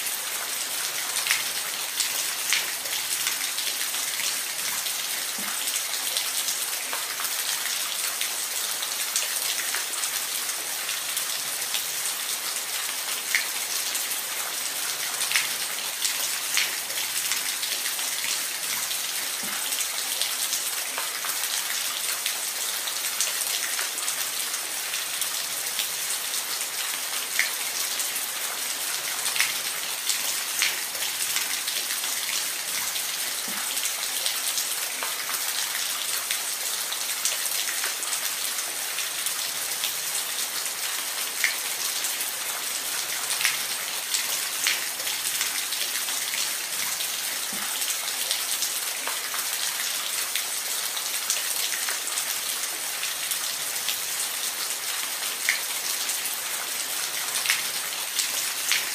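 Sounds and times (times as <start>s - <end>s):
water drips and splashes: 0.0s - 58.9s.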